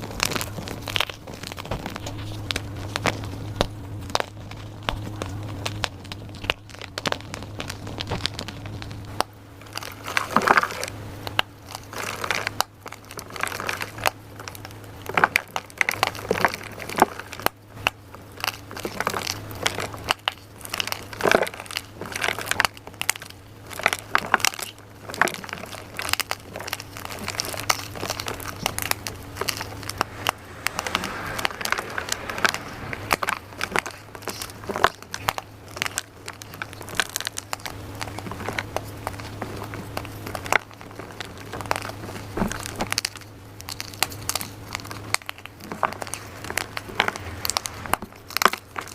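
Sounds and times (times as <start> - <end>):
chalk being crushed: 0.0 - 48.9.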